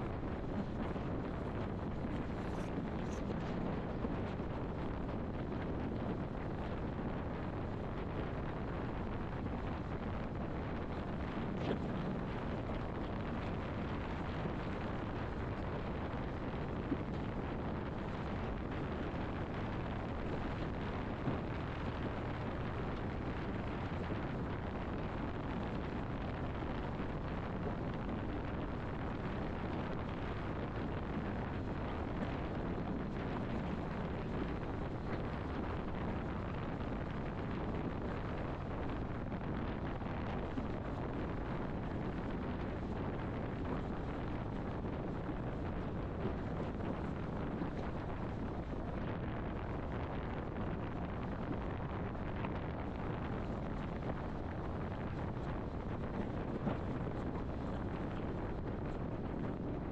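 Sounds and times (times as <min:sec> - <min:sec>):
low rumbling noise: 0:00.0 - 0:59.9.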